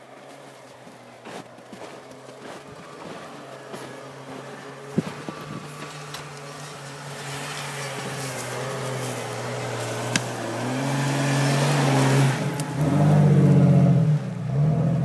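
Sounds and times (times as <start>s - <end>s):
car engine revving: 1.6s - 15.0s.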